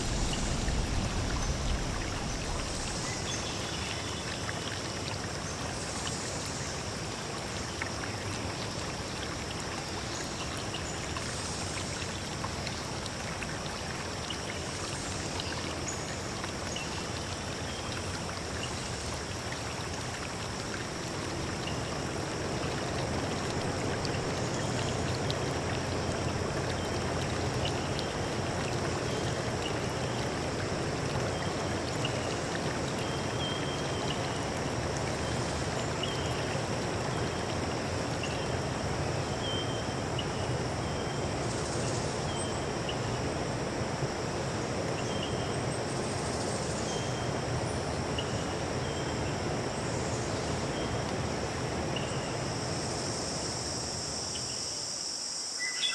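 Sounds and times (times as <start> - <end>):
stream running: 0.0 - 55.9.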